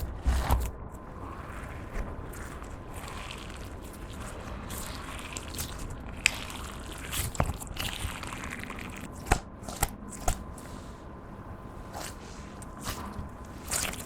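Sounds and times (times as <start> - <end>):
slime squished by hand: 0.0 - 11.0, 11.8 - 14.0.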